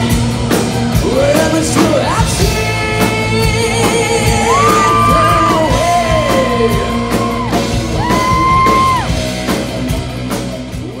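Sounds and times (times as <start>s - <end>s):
drum and cymbal hits: 0.0s - 11.0s
heavy metal band playing: 0.0s - 11.0s.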